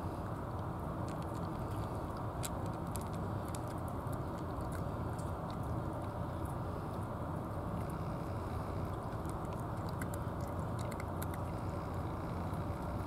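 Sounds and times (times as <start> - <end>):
steady low rumble: 0.0 - 13.0
cat crunching dry kibble: 0.3 - 13.0.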